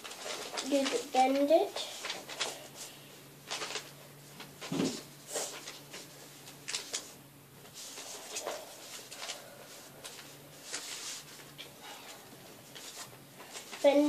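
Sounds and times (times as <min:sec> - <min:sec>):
paper rustling and creasing: 0:00.0 - 0:14.0.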